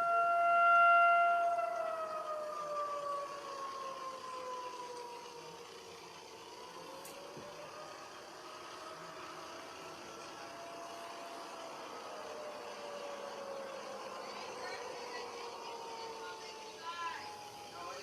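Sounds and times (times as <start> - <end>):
tornado siren wailing: 0.0 - 18.0.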